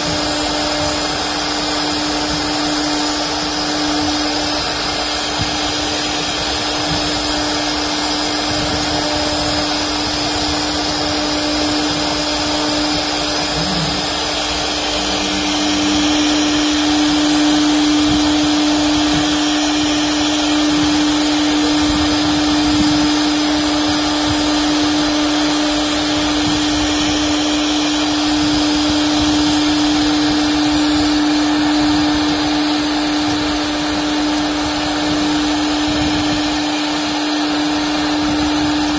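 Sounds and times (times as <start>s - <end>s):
router bit carving wood: 0.0s - 38.9s
router spindle humming: 0.0s - 38.9s.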